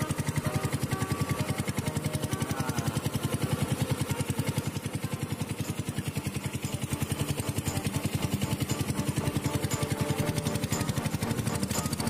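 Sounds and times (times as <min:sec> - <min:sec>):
small boat engine putter: 0:00.0 - 0:12.0.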